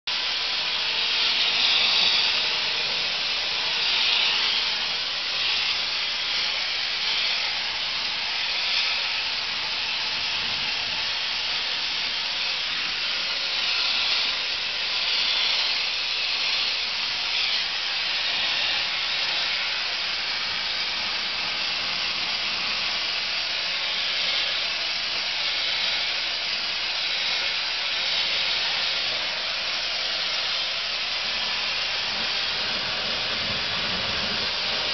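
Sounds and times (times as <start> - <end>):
media blaster air hiss: 0.1 - 34.9.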